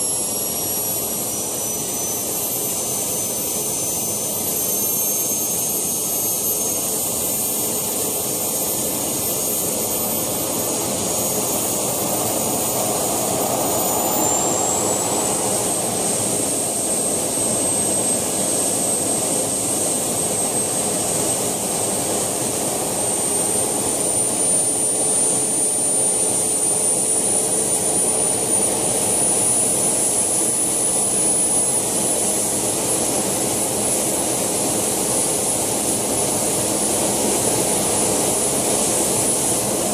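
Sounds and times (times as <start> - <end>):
model turbine rushing hiss: 0.0 - 39.9
turbine high whine: 0.0 - 39.9.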